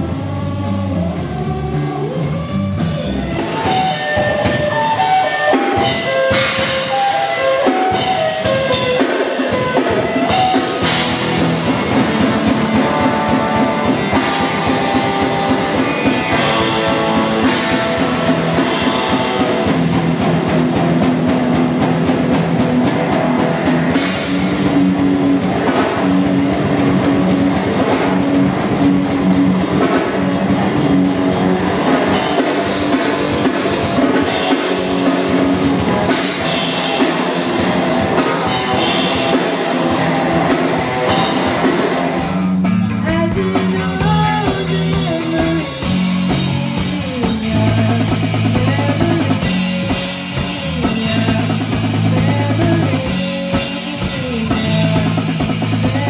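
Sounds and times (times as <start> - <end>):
drum kit beat: 0.0 - 56.0
rock guitar: 0.0 - 56.0.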